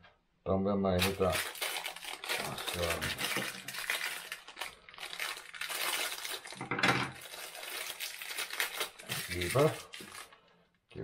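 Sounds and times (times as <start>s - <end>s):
packaging rustling and crackling: 1.0s - 10.4s.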